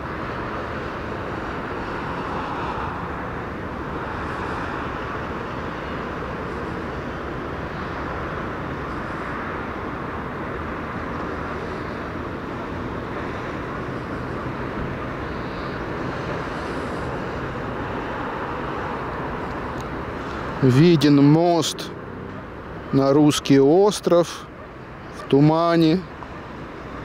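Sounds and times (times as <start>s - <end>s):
distant city traffic hum: 0.0s - 27.0s.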